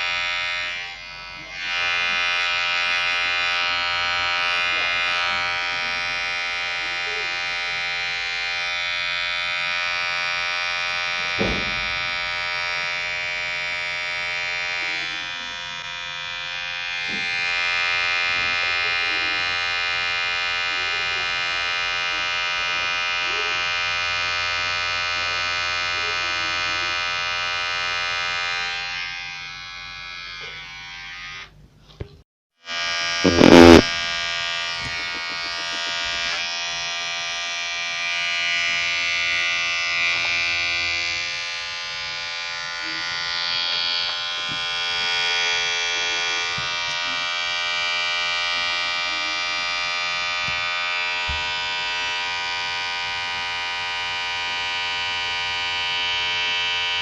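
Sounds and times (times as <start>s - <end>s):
electric hair clipper buzzing: 0.0s - 31.6s, 32.6s - 57.0s.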